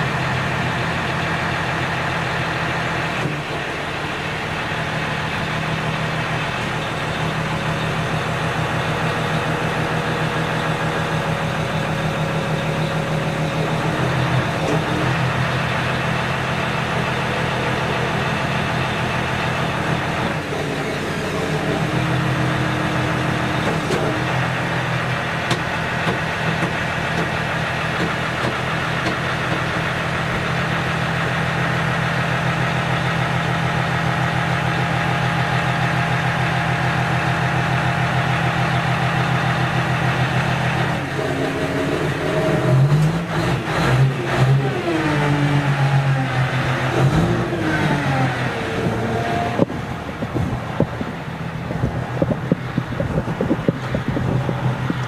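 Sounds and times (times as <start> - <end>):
aircraft tug engine running: 0.0 - 55.0.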